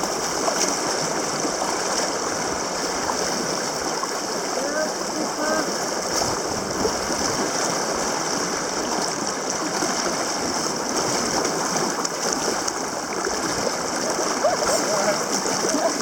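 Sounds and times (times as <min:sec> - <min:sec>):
shallow river rushing: 0:00.0 - 0:16.0.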